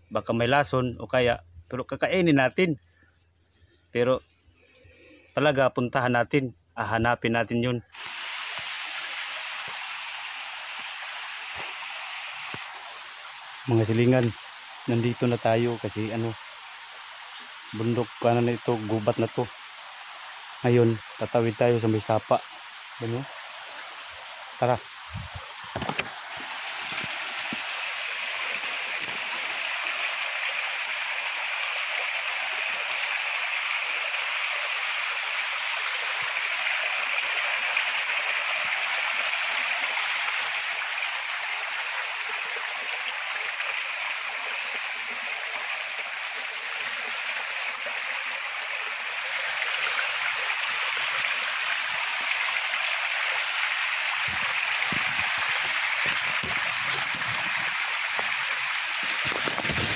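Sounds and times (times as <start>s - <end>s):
creek water running: 7.9s - 59.9s.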